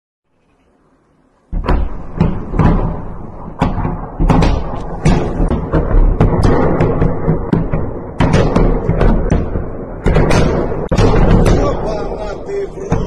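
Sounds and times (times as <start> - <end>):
rocket explosions: 1.4 - 13.0.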